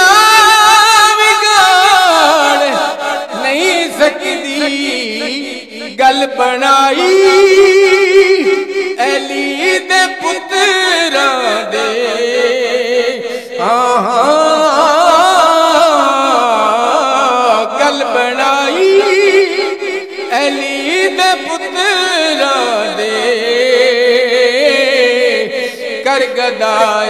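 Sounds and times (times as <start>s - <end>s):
man singing into microphone: 0.0s - 27.0s.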